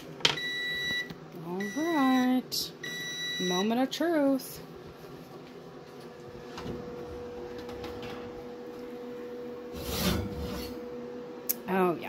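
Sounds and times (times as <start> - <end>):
appliance hum: 0.0 - 12.0.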